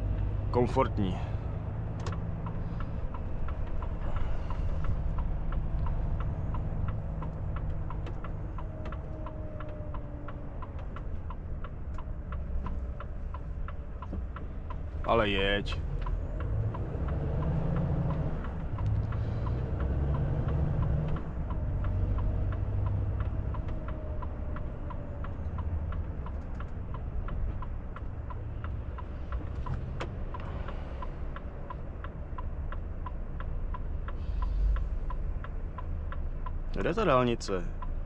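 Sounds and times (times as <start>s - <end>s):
steady regular ticking: 0.0s - 38.0s
truck diesel engine rumble: 0.0s - 38.0s.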